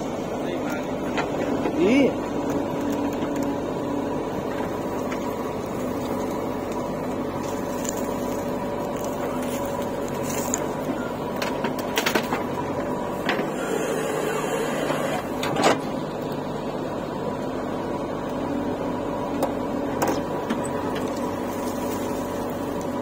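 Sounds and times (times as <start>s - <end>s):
diesel engine running under load: 0.0s - 23.0s.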